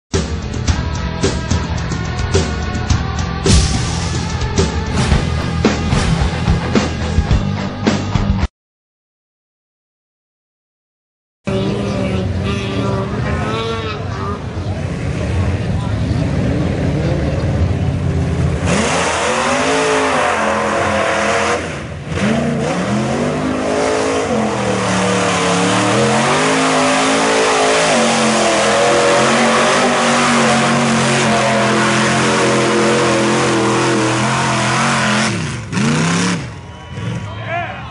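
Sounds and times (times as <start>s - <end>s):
truck engines revving: 0.2s - 8.5s, 11.5s - 37.9s.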